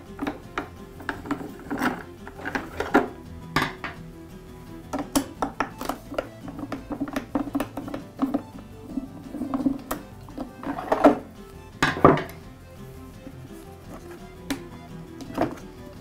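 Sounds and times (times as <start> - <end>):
light background music: 0.0 - 16.0.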